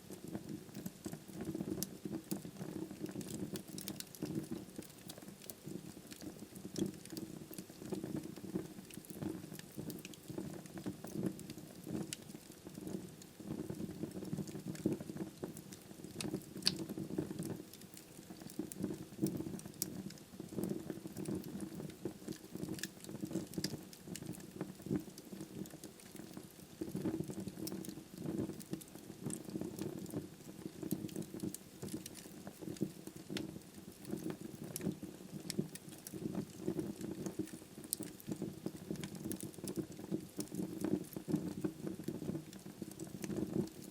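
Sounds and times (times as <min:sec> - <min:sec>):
logs crackling and popping: 0:00.1 - 0:43.9
wood fire burning: 0:00.2 - 0:43.9.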